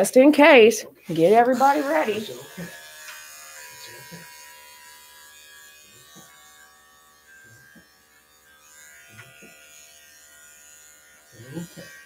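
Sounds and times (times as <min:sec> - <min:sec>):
electric clipper buzzing: 0:01.0 - 0:12.0.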